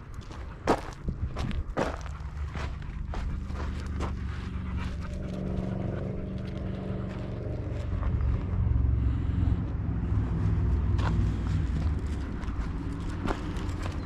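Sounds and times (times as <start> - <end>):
motor engine droning: 0.0 - 14.0.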